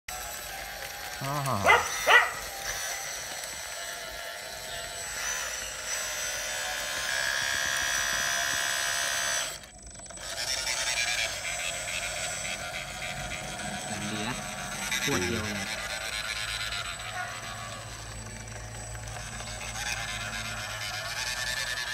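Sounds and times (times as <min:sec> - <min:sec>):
electric motor whine: 0:00.1 - 0:21.9.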